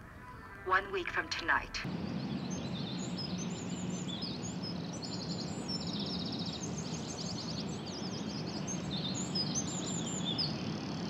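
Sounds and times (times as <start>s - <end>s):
small birds chirping and trilling: 1.9s - 11.0s.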